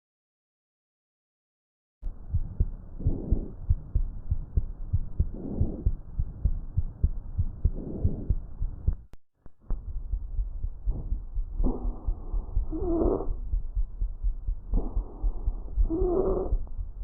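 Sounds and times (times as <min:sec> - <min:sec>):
heartbeat thumps through stethoscope: 0:02.0 - 0:17.0
whooshing heart murmur: 0:02.1 - 0:17.0.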